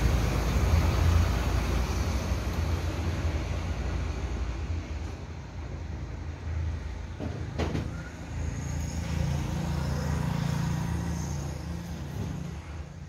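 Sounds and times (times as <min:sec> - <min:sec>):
road traffic engine hum: 0:00.0 - 0:13.0.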